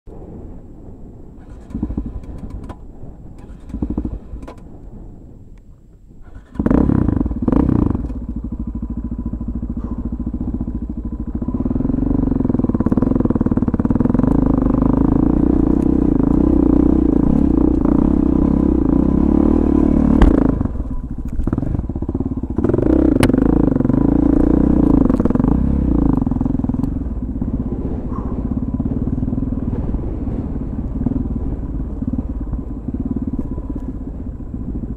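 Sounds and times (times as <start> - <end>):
motorcycle engine: 1.3 - 4.6, 6.2 - 34.9.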